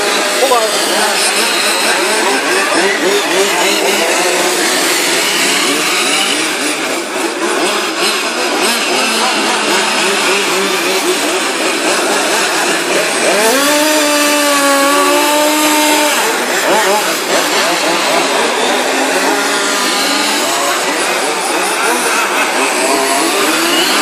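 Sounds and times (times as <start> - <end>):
small racing engines buzzing: 0.0 - 24.0.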